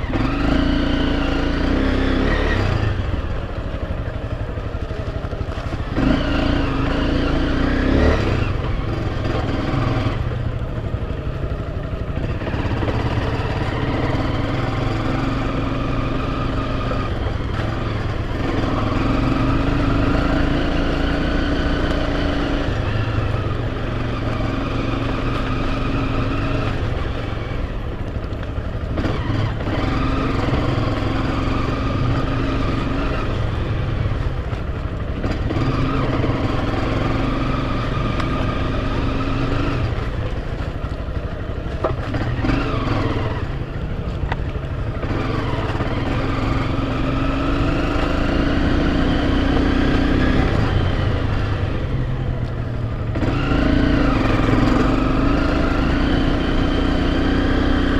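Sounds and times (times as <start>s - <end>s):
dirt bike engine revving: 0.0s - 3.4s, 5.4s - 10.4s, 12.1s - 57.9s.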